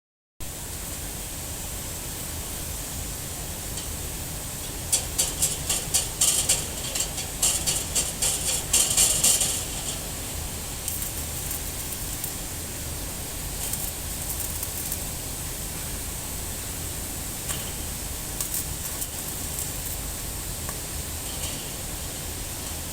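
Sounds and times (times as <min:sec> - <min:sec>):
steady hiss and low hum: 0:00.4 - 0:22.9
arc welding crackling: 0:00.6 - 0:22.9.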